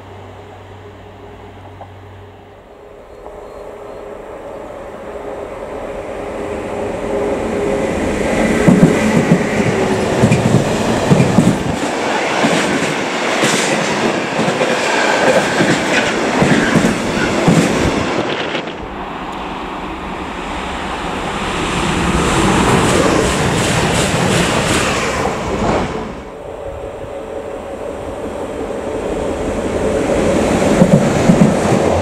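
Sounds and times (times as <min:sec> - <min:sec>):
electric train approaching hiss: 0:00.0 - 0:32.0
freight train rumbling past: 0:00.0 - 0:32.0.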